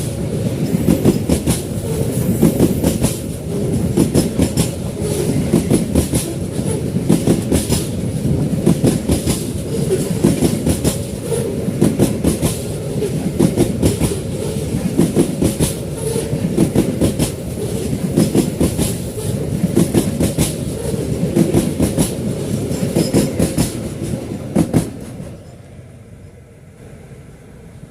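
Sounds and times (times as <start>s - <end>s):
train wheels clattering over rail joints: 0.0s - 25.5s
heavy rumble of freight train: 0.0s - 27.9s.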